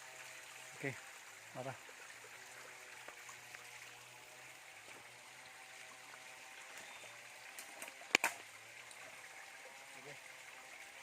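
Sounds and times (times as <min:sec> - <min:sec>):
water stream flowing: 0:00.0 - 0:11.0.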